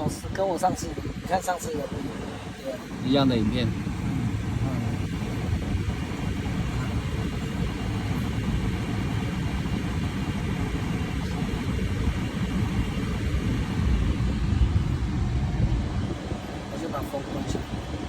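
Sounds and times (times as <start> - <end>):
low rumbling car cabin noise: 0.0 - 18.0.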